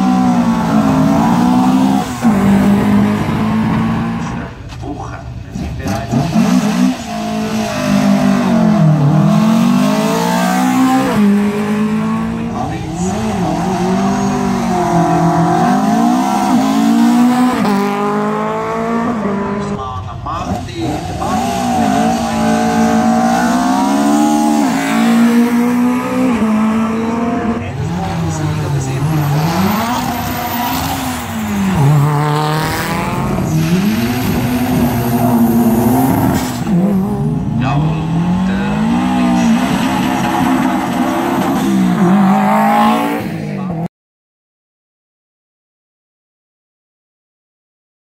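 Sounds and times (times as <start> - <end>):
race car engine revving through gears: 0.0 - 19.8, 20.4 - 43.9.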